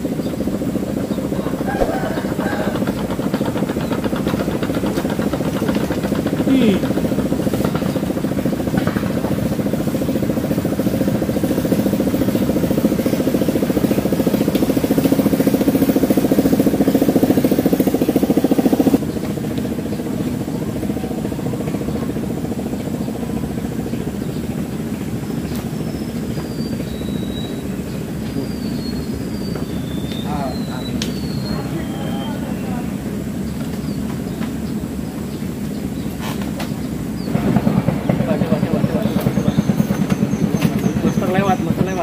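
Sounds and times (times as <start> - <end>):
small boat engine running: 0.0 - 42.0.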